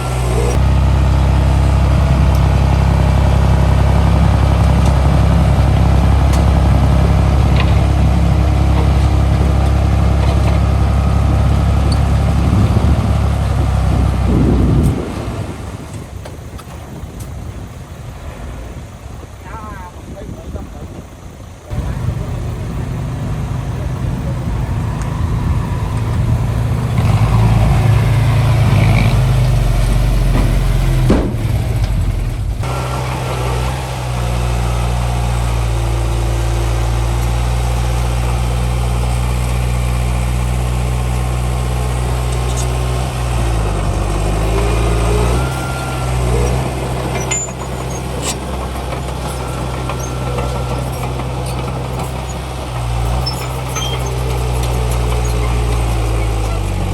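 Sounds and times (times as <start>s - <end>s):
heavy diesel engines rumbling: 0.0s - 56.9s.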